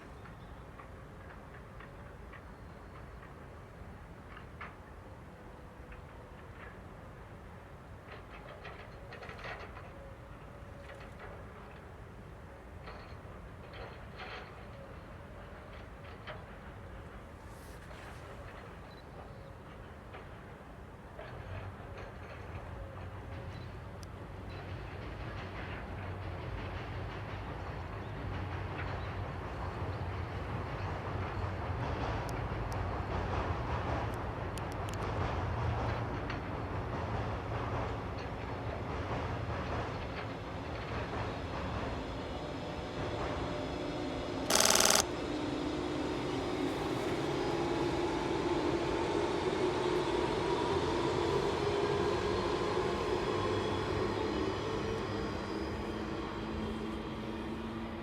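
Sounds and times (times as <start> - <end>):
train rumbling on rails: 0.0 - 44.5, 45.2 - 58.0.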